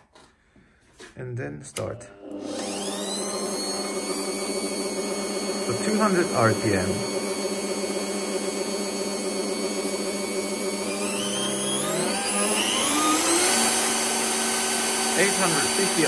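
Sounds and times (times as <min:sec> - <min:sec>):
drill press running with rising whine: 0:02.0 - 0:16.0.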